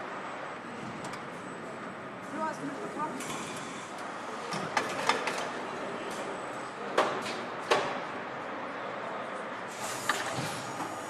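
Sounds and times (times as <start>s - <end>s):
factory background noise: 0.0s - 11.0s.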